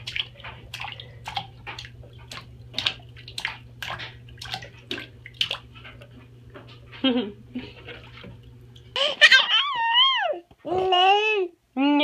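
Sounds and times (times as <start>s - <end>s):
bath water splashing: 0.0s - 11.0s
steady low hum: 0.0s - 12.0s.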